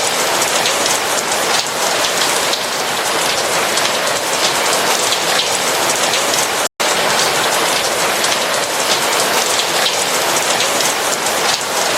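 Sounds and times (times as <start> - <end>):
rain pattering: 0.0 - 11.9.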